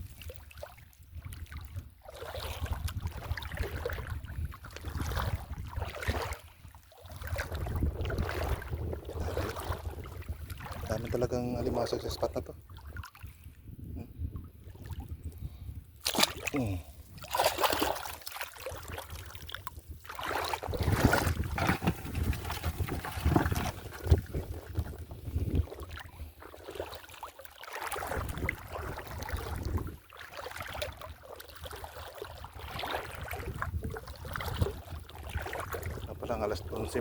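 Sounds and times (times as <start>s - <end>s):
sea water splashing and sloshing: 0.0s - 13.6s, 14.4s - 37.0s.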